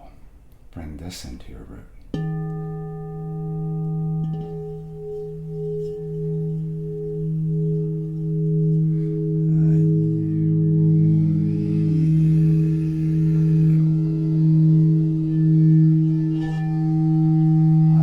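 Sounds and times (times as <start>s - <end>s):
lower bowl tone: 2.1s - 18.0s
singing bowl ringing: 2.2s - 18.0s.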